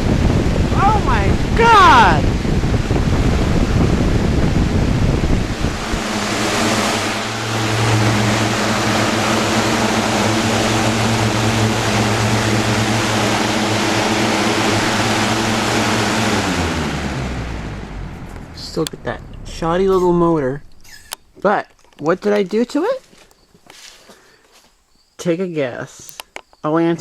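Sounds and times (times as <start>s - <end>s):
fan air rushing: 0.0s - 22.4s
fan motor hum: 0.0s - 23.3s.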